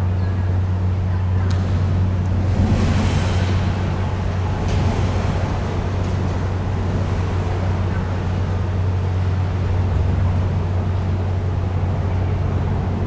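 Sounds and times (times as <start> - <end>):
constant rushing noise: 0.0 - 13.0
low mechanical hum: 0.0 - 13.0.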